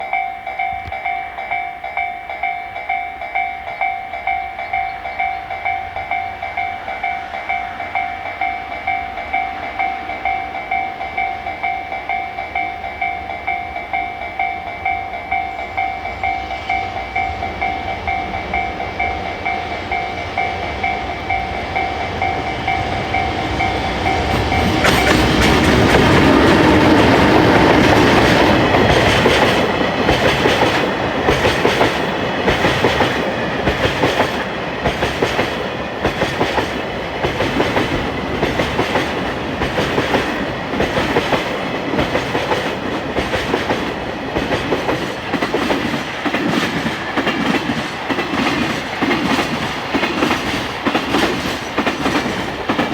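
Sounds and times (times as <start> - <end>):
train passing: 0.0 - 52.9.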